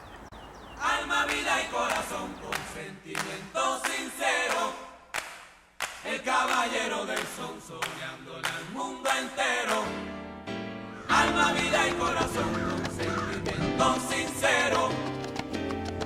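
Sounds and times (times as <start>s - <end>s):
voices singing in harmony: 0.4s - 5.2s, 5.9s - 10.2s, 11.0s - 15.8s.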